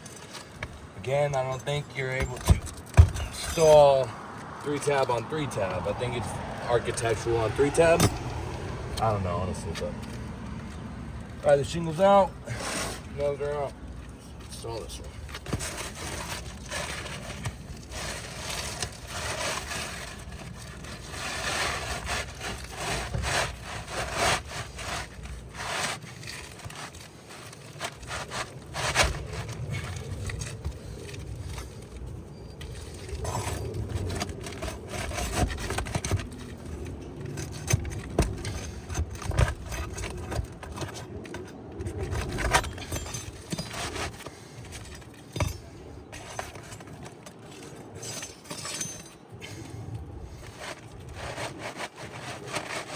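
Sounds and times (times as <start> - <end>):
roofing shingle scraping: 0.0 - 52.9.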